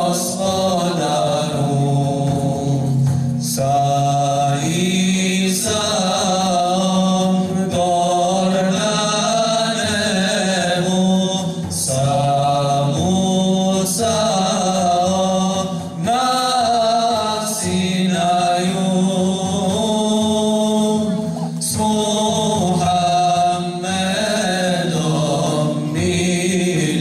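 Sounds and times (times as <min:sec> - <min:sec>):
men singing devotional song: 0:00.0 - 0:27.0.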